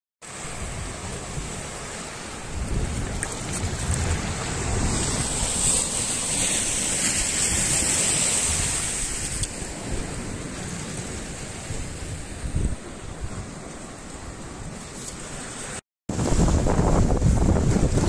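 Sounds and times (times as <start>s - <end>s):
surf washing over rocks: 0.2s - 18.0s
wind buffeting microphone: 0.5s - 15.4s, 16.1s - 18.0s.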